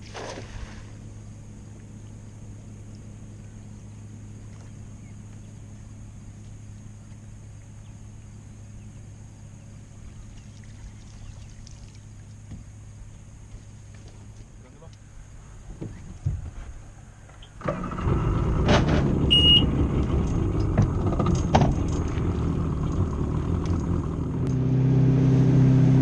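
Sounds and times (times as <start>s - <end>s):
faint water noise: 0.0s - 18.4s, 19.3s - 24.6s
boat motor humming: 0.0s - 26.0s.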